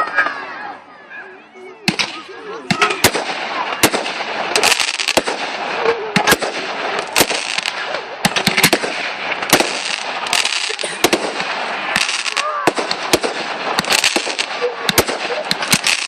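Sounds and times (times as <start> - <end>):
firework bangs: 1.9 - 16.0
firework crackle and hiss: 1.9 - 16.0.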